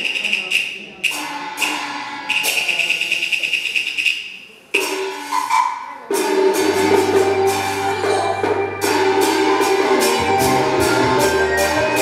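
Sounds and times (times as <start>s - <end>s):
pitched instrumental line: 0.0s - 12.0s.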